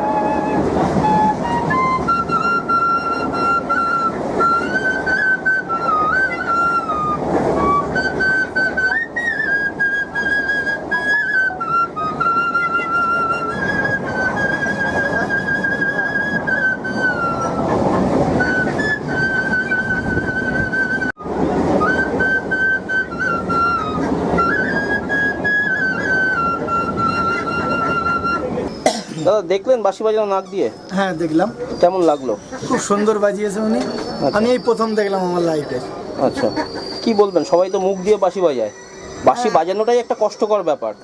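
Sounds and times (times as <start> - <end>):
bamboo flute melody: 0.0 - 28.8, 29.9 - 41.0
moving train rumble: 0.0 - 41.0.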